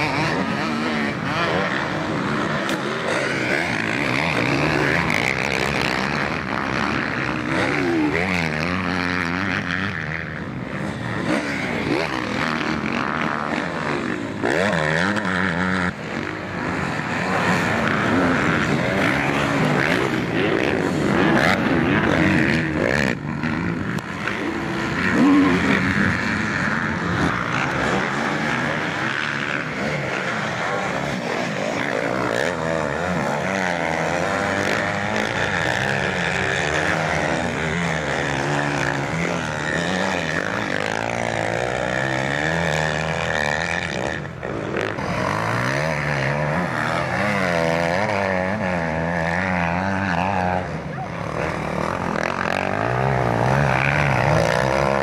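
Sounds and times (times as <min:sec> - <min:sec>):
motocross bike engines racing: 0:00.0 - 0:55.0.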